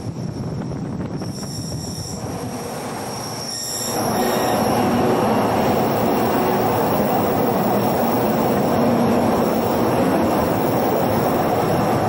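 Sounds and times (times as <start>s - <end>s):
train wheels rolling on rail: 0.0s - 12.0s.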